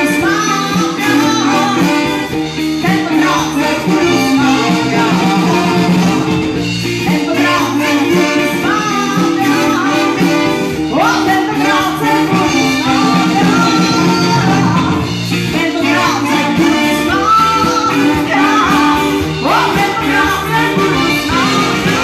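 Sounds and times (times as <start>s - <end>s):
woman singing into microphone: 0.0s - 6.4s, 7.0s - 22.0s
live brass band playing: 0.0s - 22.0s.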